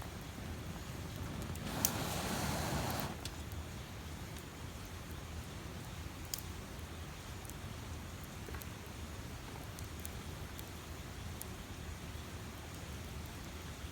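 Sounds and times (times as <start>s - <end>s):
campfire crackling and popping: 0.0s - 13.6s.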